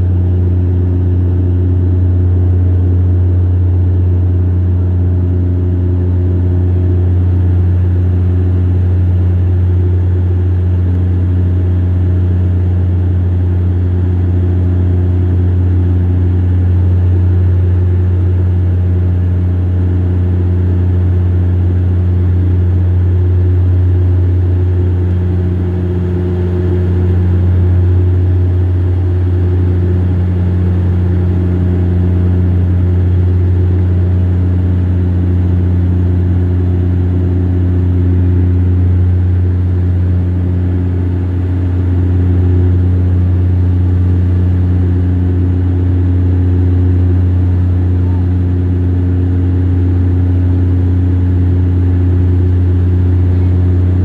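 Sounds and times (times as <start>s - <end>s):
propellers droning in cabin: 0.0s - 54.0s.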